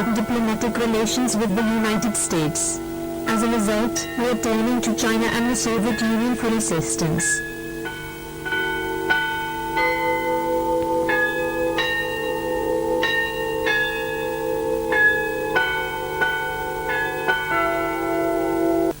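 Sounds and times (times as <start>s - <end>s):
steady held chord: 0.0s - 19.0s
bell-like chimes melody: 1.8s - 19.0s.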